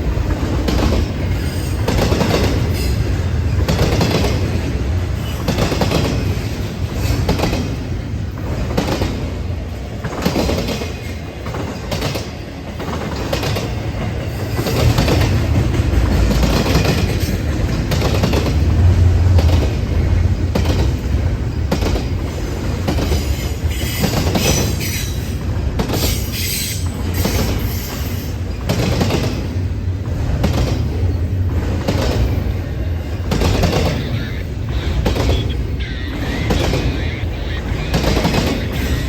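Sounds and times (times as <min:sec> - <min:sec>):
freight train rumble: 0:00.0 - 0:39.0.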